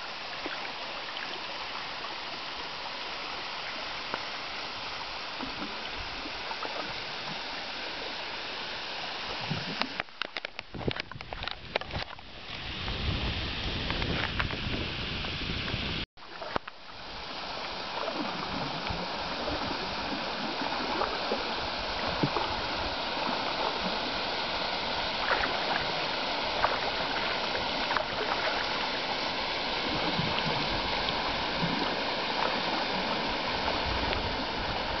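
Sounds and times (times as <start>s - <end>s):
river water flowing: 0.0s - 10.6s, 16.2s - 35.0s
water splashes: 0.0s - 35.0s.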